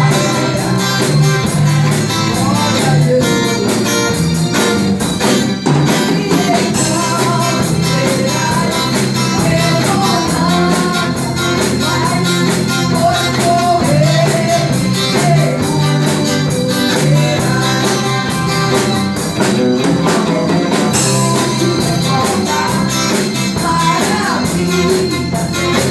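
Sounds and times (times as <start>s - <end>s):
band playing a hymn: 0.0s - 25.9s.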